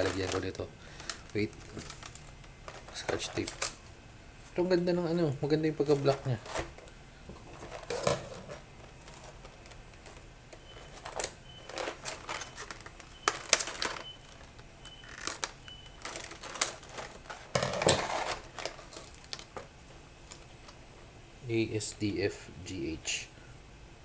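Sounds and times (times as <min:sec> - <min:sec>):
packaging rustling: 0:00.0 - 0:20.8.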